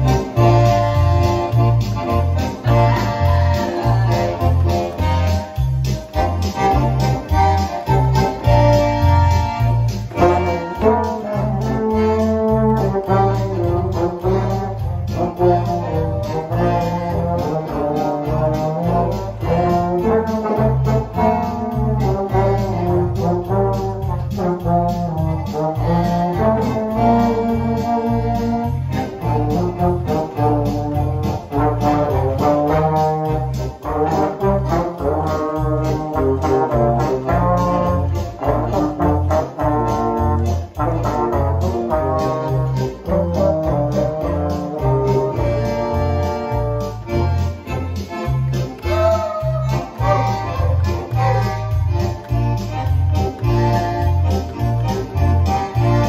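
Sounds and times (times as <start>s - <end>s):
accordion: 0.0s - 56.0s
baritone horn: 0.0s - 56.0s
electric bass: 0.0s - 56.0s
small band playing polka: 0.0s - 56.0s
steady beat: 0.0s - 56.0s
trombone: 0.0s - 56.0s.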